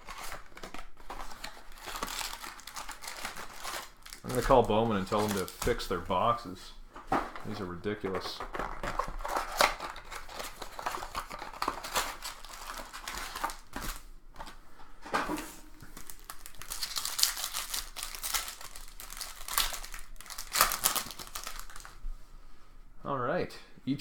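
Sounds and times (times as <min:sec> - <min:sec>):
packaging torn open and crinkled: 0:00.0 - 0:06.4, 0:07.5 - 0:14.5, 0:15.9 - 0:22.0.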